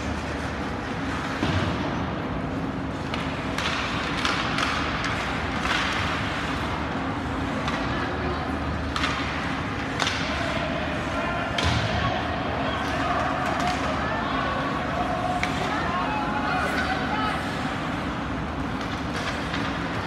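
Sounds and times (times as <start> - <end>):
skates scraping ice: 0.0 - 20.0
steady rink hum: 0.0 - 20.0.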